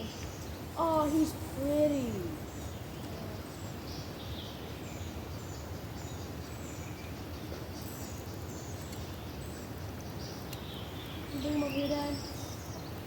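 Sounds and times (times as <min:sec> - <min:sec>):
birds chirping faintly: 0:00.0 - 0:13.0
outdoor background noise: 0:00.0 - 0:13.0.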